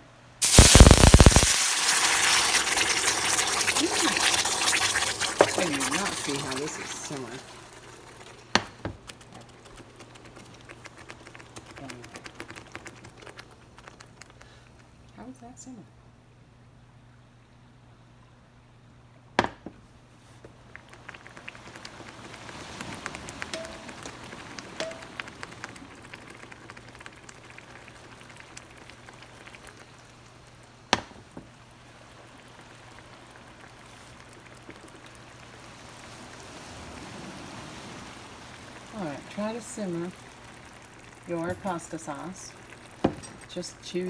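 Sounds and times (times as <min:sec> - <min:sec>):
low steady hum: 0:00.0 - 0:44.0
sauce bubbling and popping: 0:00.4 - 0:15.0, 0:20.4 - 0:44.0.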